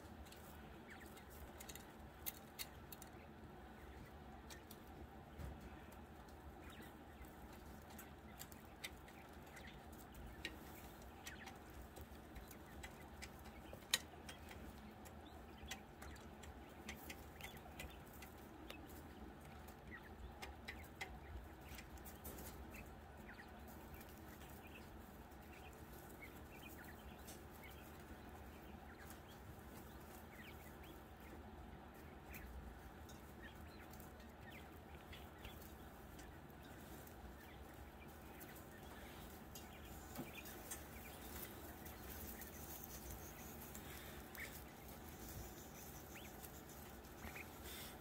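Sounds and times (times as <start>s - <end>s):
quail chirping: 0.0s - 48.0s
quail pecking clicks: 0.0s - 48.0s.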